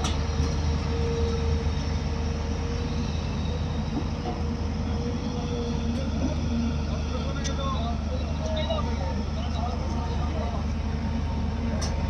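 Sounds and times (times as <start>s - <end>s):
excavator diesel engine drone: 0.0s - 12.0s.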